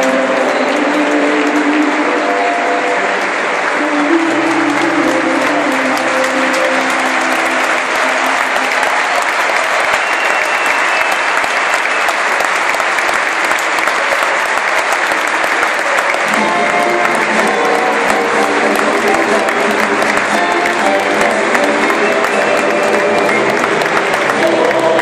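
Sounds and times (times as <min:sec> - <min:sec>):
music playing: 0:00.0 - 0:25.0
stadium crowd applauding: 0:00.0 - 0:25.0.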